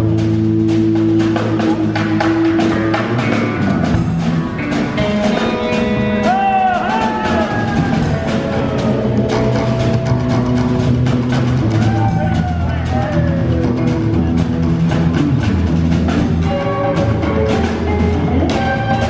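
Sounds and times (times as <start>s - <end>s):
drum kit beat: 0.0s - 19.0s
electric guitar with bent notes: 0.0s - 19.0s.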